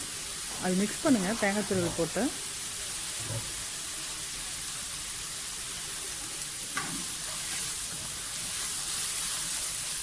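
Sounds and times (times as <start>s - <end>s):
cabbage sizzling in a pan: 0.0s - 10.0s.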